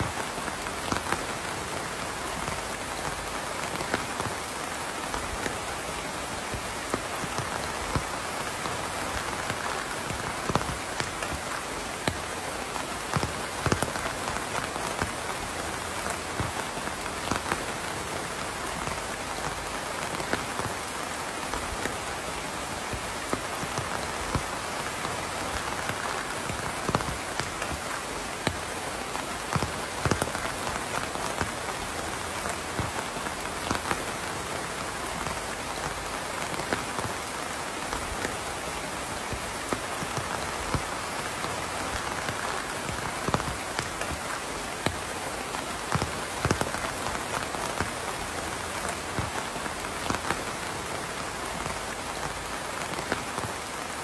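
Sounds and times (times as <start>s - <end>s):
raindrops tapping: 0.0s - 54.0s
steady rain: 0.0s - 54.0s.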